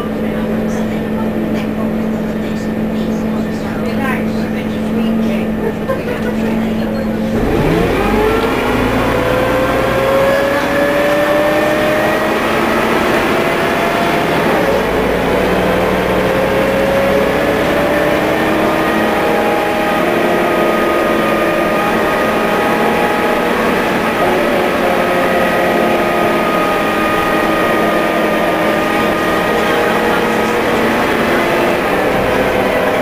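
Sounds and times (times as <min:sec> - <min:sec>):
bus engine and transmission whine: 0:00.0 - 0:33.0.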